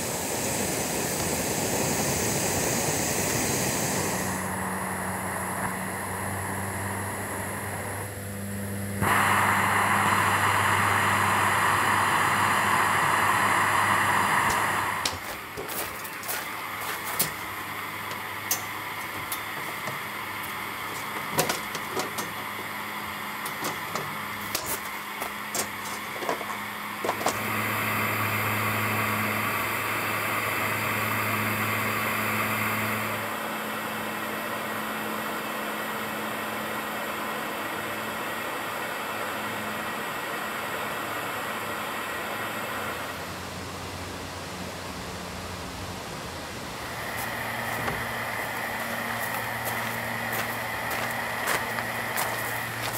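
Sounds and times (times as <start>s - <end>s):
burner heater hum and roar: 0.0s - 52.9s.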